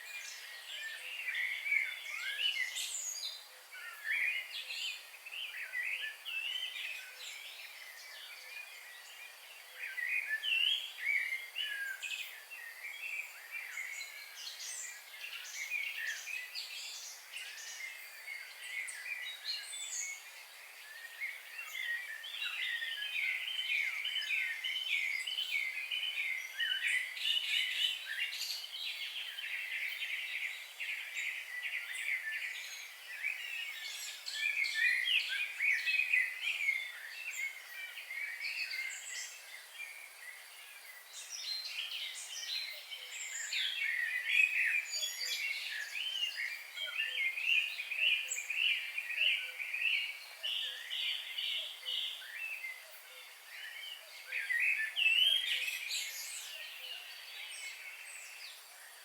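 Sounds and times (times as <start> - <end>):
faint steady hiss: 0.0 - 59.0
small birds chirping and trilling: 0.0 - 59.0.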